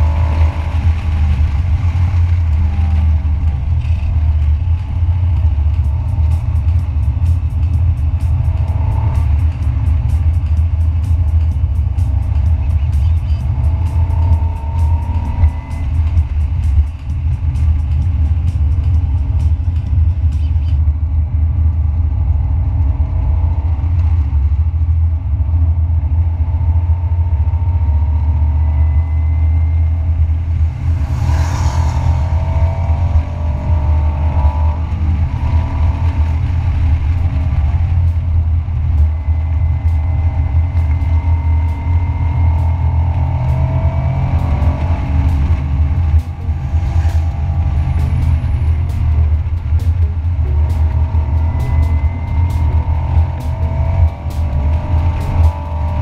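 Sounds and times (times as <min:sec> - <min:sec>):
road and wind rumble: 0:00.0 - 0:56.0
sports car engine: 0:00.0 - 0:56.0.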